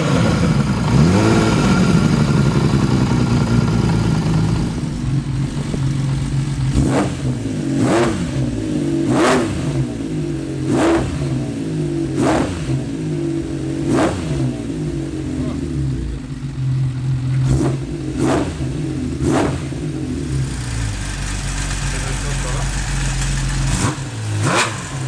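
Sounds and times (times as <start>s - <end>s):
motorcycle engine idling: 0.0s - 25.0s
motorcycle throttle blips: 0.0s - 25.0s.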